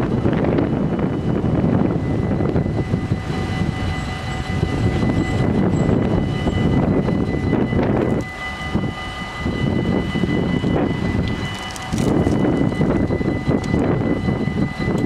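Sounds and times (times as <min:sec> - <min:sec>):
level-crossing warning bells: 0:00.0 - 0:15.0
steady tones: 0:00.0 - 0:15.0.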